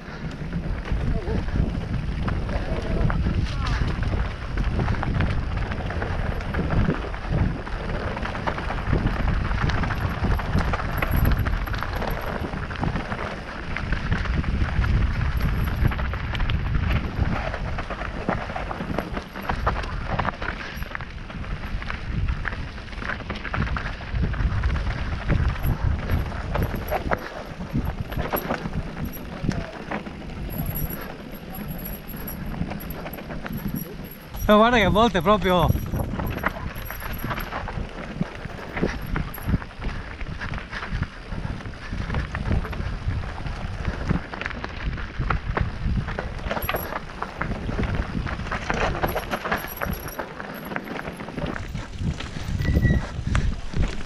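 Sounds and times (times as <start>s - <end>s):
bike rattling over stones: 0.0s - 54.0s
wind buffeting microphone: 0.0s - 54.0s.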